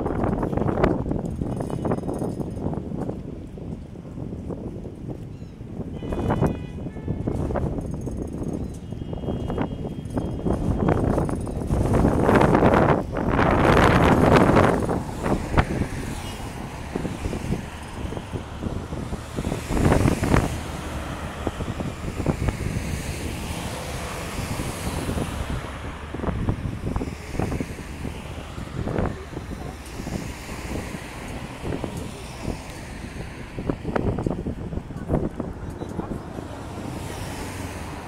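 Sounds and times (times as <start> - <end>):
road traffic noise: 0.0 - 38.0
wind buffeting microphone: 0.0 - 38.0.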